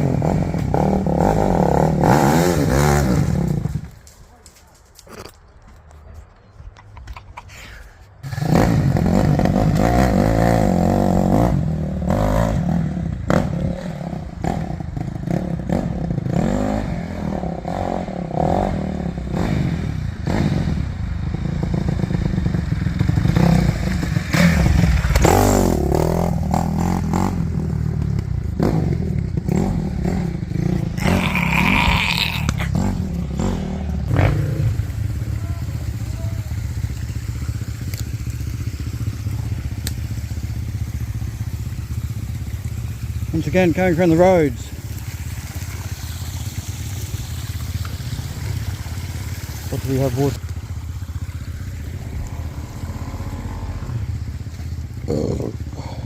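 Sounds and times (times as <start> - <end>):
dirt bike engine revving: 0.0 - 3.9, 8.2 - 44.8, 51.4 - 56.0.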